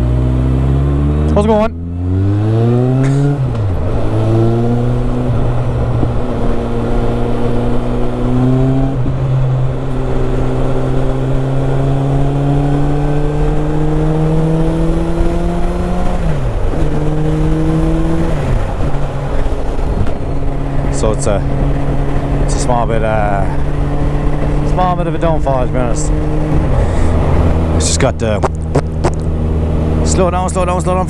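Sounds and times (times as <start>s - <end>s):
low wind rush: 0.0s - 31.0s.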